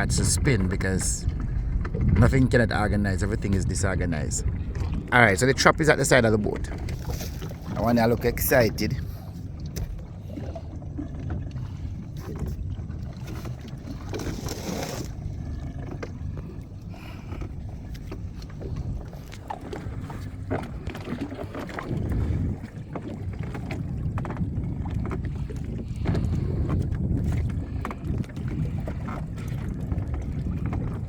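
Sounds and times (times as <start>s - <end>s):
wind and water rumble: 0.0s - 31.0s.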